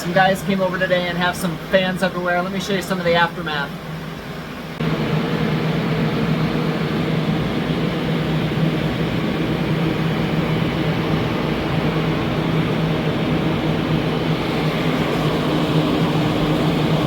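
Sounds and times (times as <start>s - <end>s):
fans rushing air: 0.0s - 17.0s
low fan hum: 0.0s - 17.0s.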